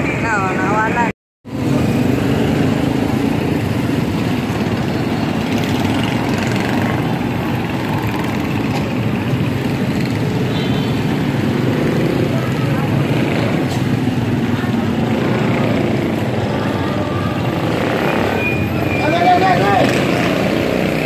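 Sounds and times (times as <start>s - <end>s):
small motorcycle engines running: 1.5s - 21.0s.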